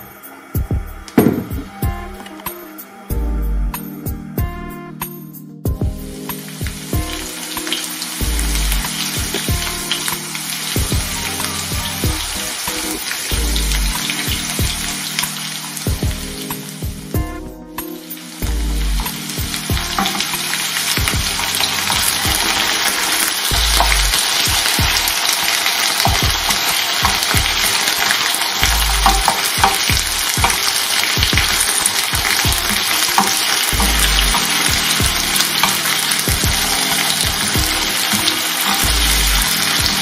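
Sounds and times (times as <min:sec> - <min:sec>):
vegetables sizzling in a pan: 0:06.3 - 0:17.2, 0:18.0 - 0:40.0.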